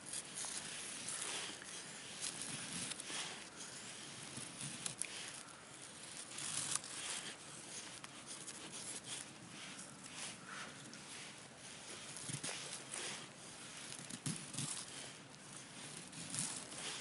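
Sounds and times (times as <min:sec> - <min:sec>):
knife scraping wood: 0:00.0 - 0:17.0.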